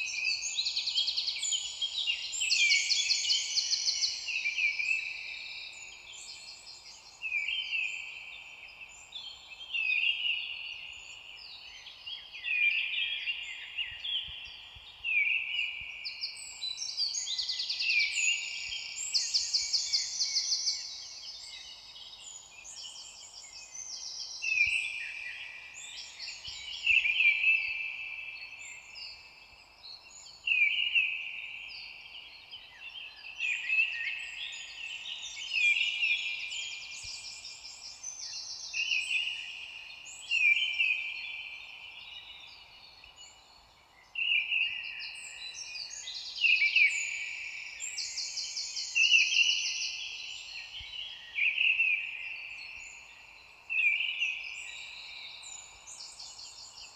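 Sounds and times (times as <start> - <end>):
faint steady hiss: 0.0 - 56.9
songbirds singing: 0.0 - 56.9.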